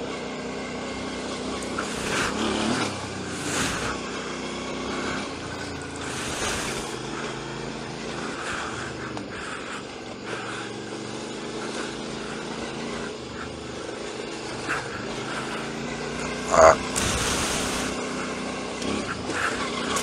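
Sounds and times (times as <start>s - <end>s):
constant rushing noise: 0.0s - 20.0s
motorcycle engine running: 0.0s - 20.0s.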